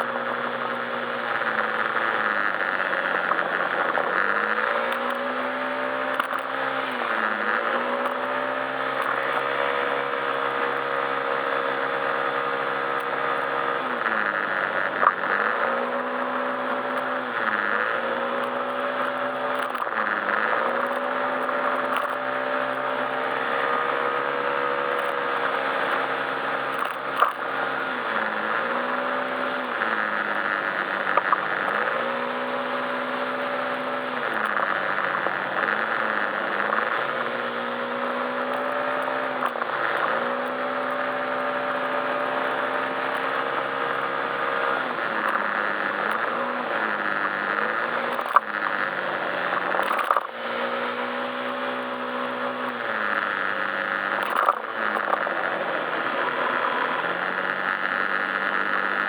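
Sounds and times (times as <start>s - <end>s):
scooter engine running: 0.0s - 59.0s.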